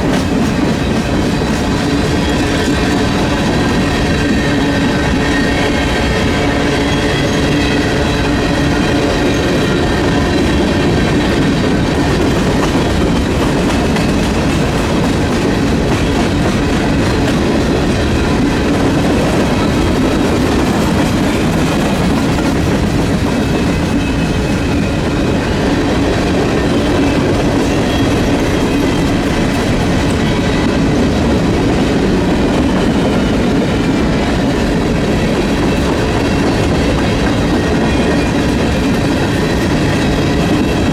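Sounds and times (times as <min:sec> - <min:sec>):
freight train rumbling past: 0:00.0 - 0:40.9.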